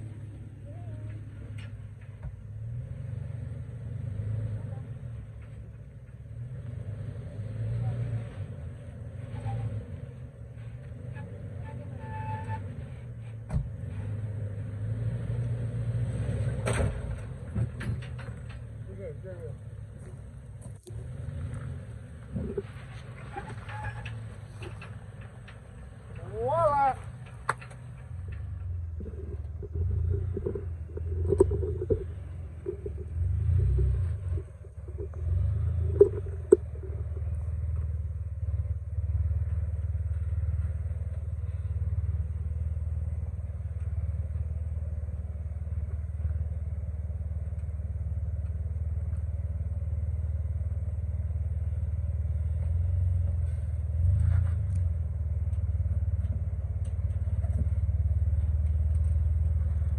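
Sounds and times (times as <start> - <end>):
low engine rumble: 0.0 - 59.9
vehicle engine surging: 0.0 - 59.9.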